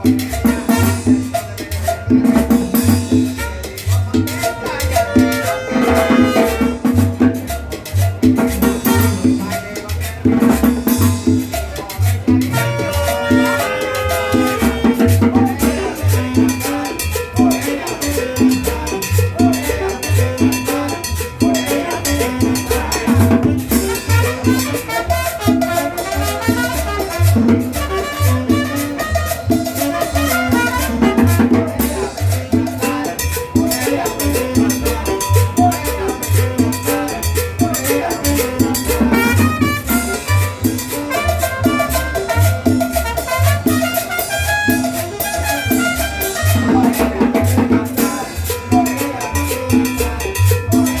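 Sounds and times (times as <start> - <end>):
percussion: 0.0 - 51.0
repeating bass line: 0.0 - 51.0
salsa music: 0.0 - 51.0.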